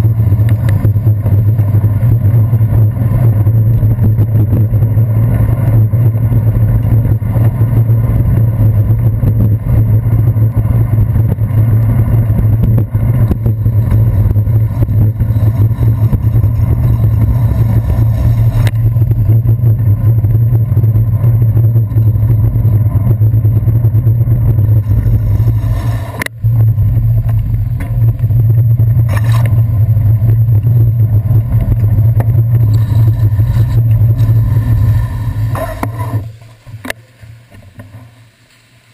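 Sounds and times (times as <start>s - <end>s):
road vibration and wind rumble: 0.0s - 38.9s.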